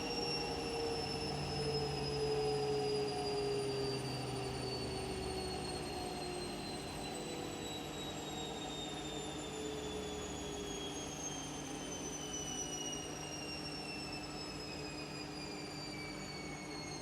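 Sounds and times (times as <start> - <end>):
washing machine motor whine: 0.0 - 17.0.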